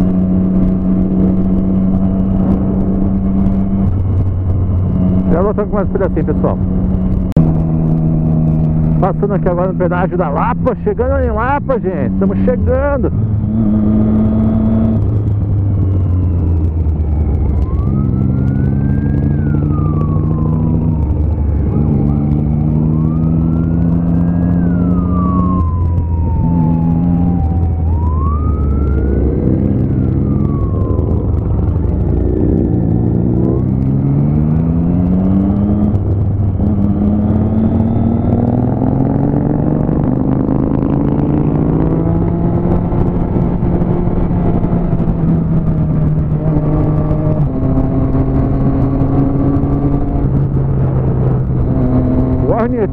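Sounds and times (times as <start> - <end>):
motorcycle engine changing gears: 0.0 - 52.9
police siren wailing: 0.0 - 52.9.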